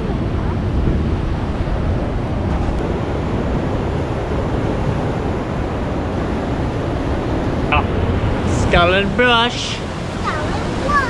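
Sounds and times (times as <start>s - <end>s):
ocean surf: 0.0s - 11.0s
wind buffeting microphone: 0.0s - 11.0s
wind rushing: 0.0s - 11.0s.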